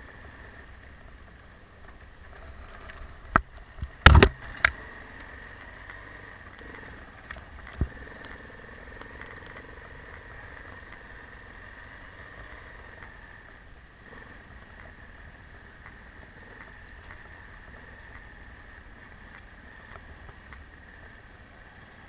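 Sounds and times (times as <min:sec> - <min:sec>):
motorcycle engine at low speed: 0:00.0 - 0:22.0.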